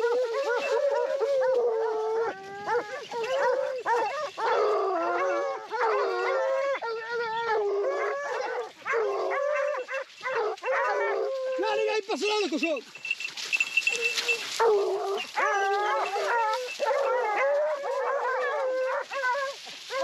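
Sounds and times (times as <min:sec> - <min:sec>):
hounds baying: 0:00.0 - 0:20.0.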